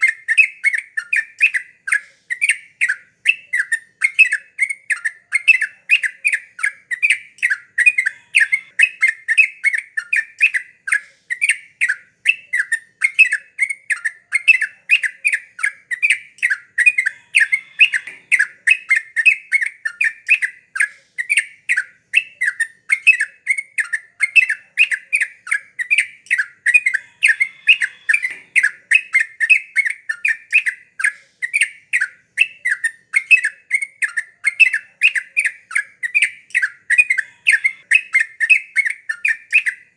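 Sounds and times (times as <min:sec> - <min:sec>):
bird chattering call: 0:00.0 - 0:39.8.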